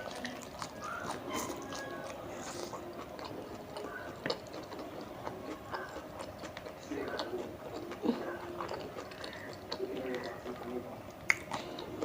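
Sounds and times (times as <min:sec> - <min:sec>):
chewing and biting food: 0:00.0 - 0:12.0
mouth clicks and smacks: 0:00.0 - 0:12.0.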